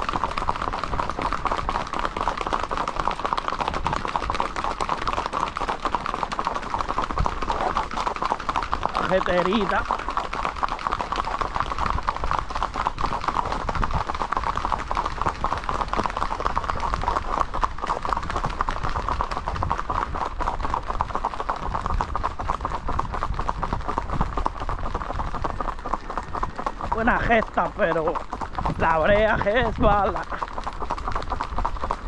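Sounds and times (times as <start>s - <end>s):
hooves clattering on asphalt: 0.0s - 32.0s.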